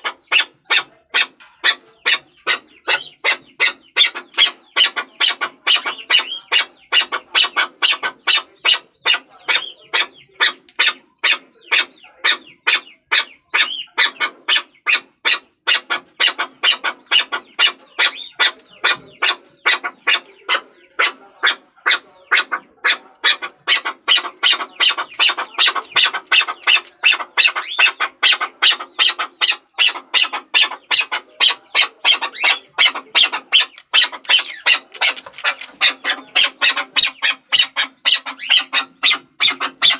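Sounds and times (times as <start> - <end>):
partridge chucking calls: 0.0 - 39.9.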